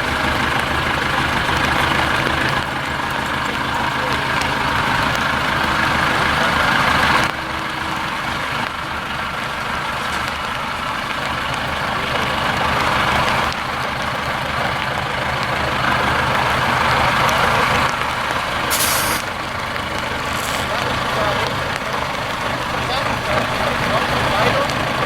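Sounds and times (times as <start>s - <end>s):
diesel truck engine under load: 0.0s - 25.0s.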